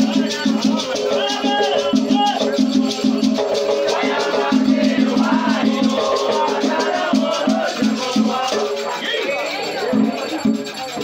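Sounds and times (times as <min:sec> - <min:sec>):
shaken rattle: 0:00.0 - 0:11.0
voices singing a chant: 0:00.0 - 0:11.0.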